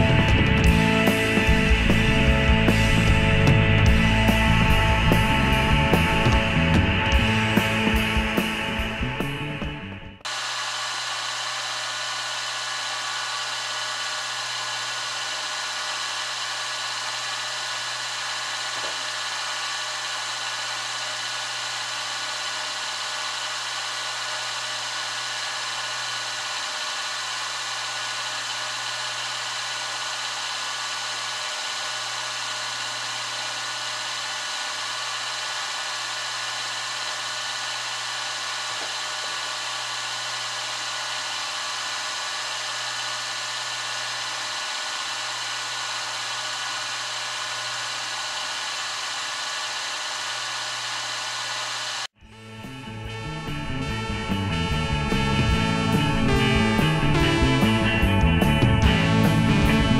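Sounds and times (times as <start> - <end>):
milling machine whining: 0.0 - 59.9.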